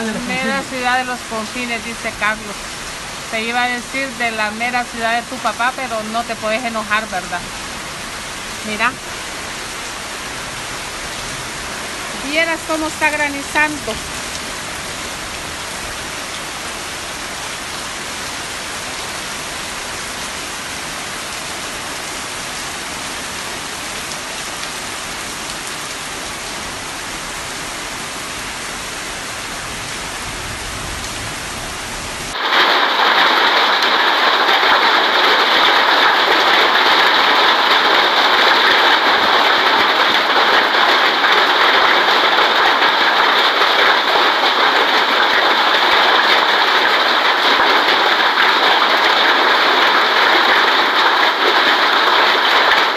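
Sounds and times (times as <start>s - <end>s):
hail and rain on plants: 0.0s - 52.9s
harsh hail downpour: 0.0s - 52.9s.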